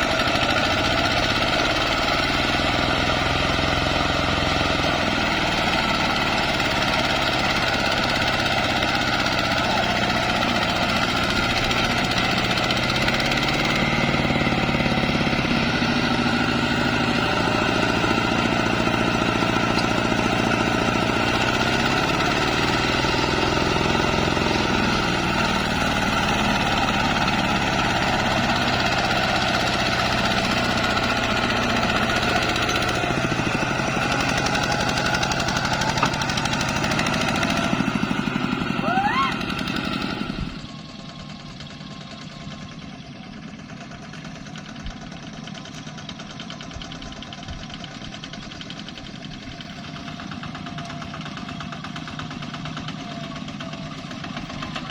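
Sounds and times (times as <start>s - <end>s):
tractor engine under load: 0.0s - 54.9s.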